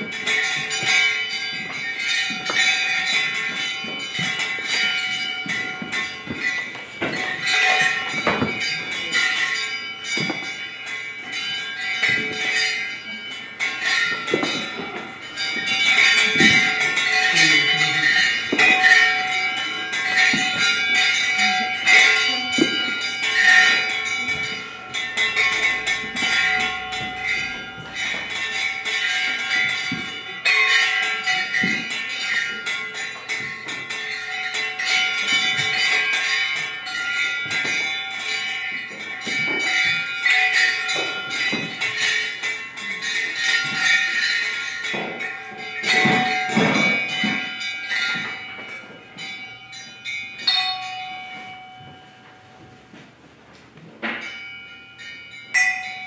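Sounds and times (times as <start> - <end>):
bells ringing: 0.0 - 56.0.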